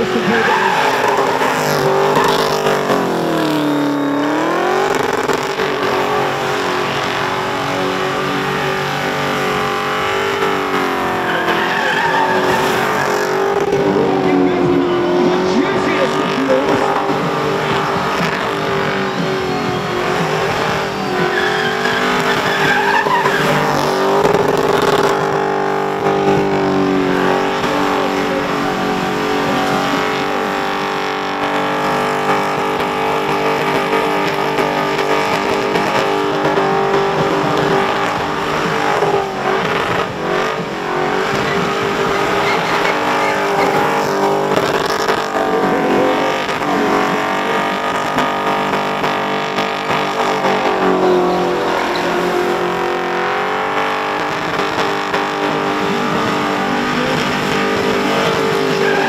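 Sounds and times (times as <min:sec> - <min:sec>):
car engine at high revs: 0:00.0 - 0:59.0
tyres screeching: 0:00.0 - 0:59.0.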